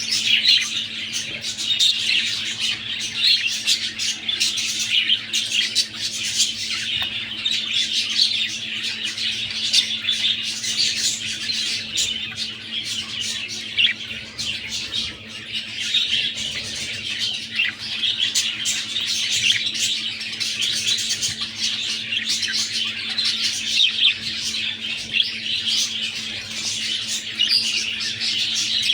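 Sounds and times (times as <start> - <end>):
budgerigars chirping: 0.0 - 28.9.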